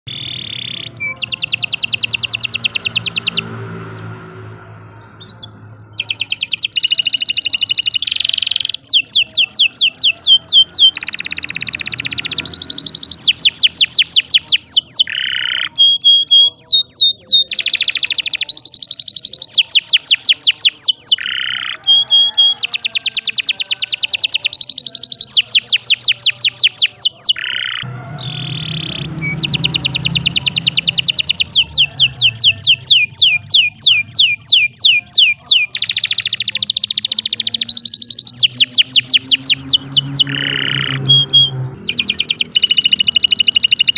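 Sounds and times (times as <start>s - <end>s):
canary singing trills: 0.1s - 43.9s.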